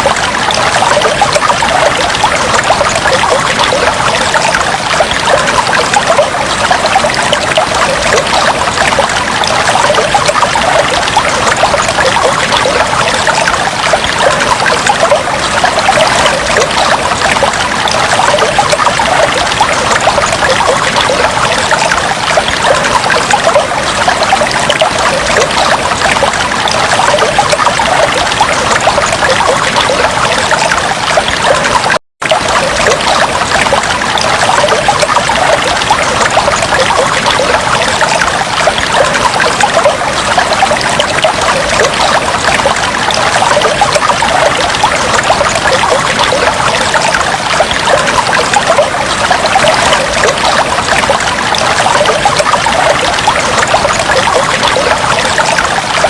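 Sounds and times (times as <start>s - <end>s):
aquarium water trickling and bubbling: 0.0s - 56.0s.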